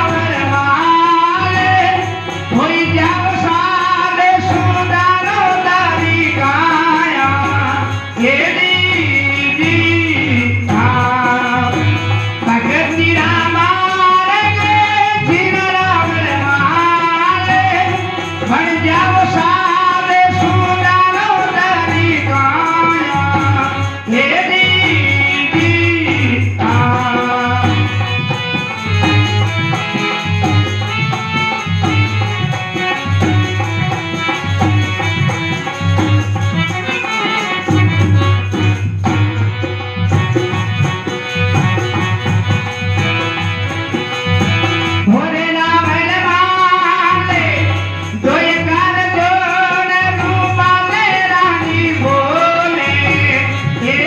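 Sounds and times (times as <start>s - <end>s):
man singing into a microphone: 0.0s - 54.0s
sustained instrumental accompaniment: 0.0s - 54.0s.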